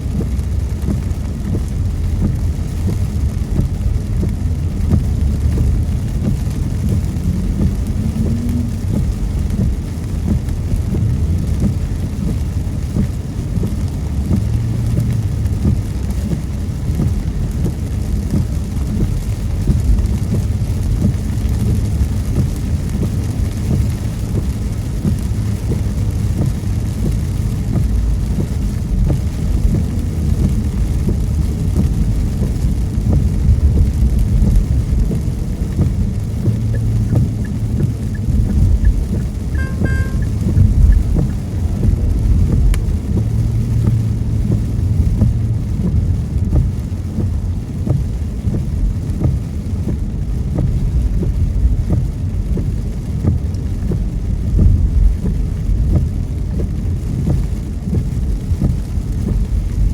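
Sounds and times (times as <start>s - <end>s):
rain hitting car: 0.0s - 59.9s
tyres on wet road: 0.0s - 59.9s.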